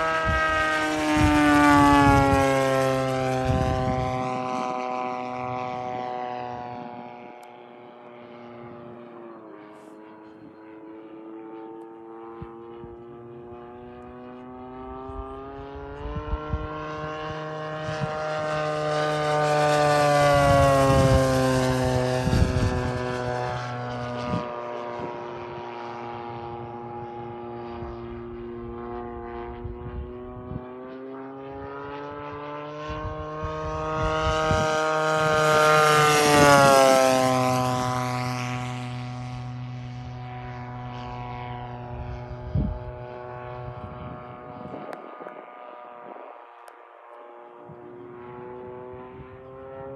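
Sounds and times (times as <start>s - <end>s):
model plane engine passing: 0.0s - 49.9s.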